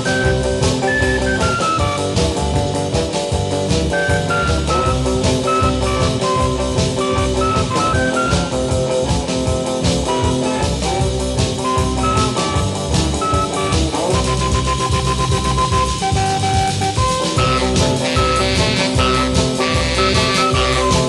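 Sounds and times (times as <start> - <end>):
instrumental rock and roll music: 0.0 - 21.0.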